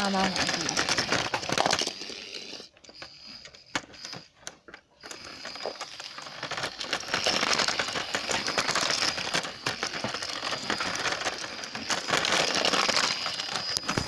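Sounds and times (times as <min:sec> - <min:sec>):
model train cars clicking: 0:00.0 - 0:14.0.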